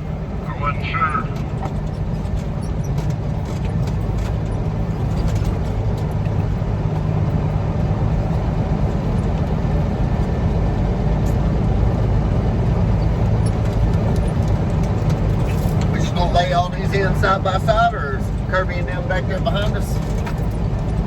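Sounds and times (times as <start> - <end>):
diesel truck engine running: 0.0 - 21.0
road noise: 0.0 - 21.0.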